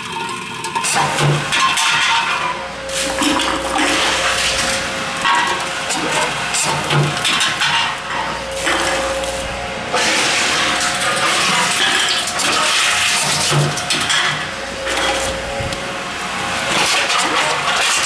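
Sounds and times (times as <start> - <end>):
machine motor humming: 2.4 - 18.0.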